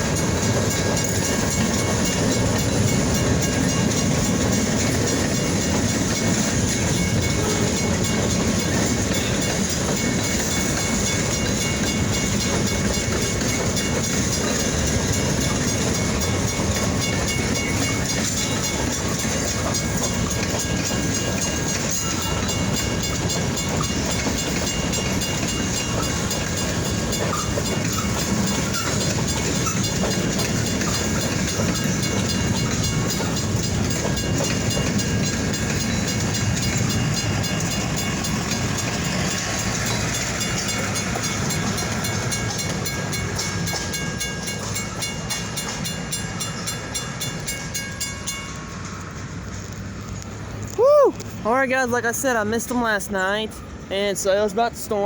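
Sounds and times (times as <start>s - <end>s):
freight train wheels on track: 0.0s - 55.0s.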